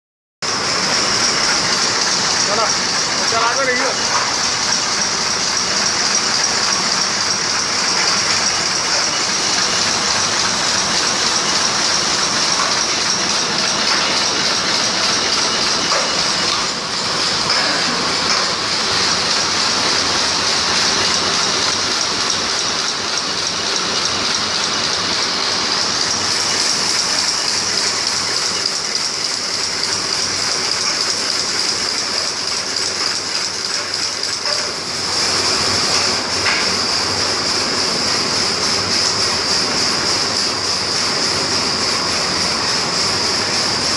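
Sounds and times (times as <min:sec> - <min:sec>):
machine mechanical clatter: 0:00.4 - 0:43.9.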